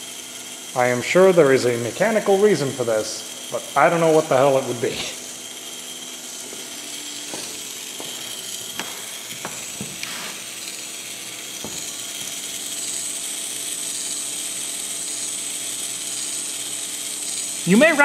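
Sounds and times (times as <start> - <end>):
small electric motor humming: 0.0 - 18.0.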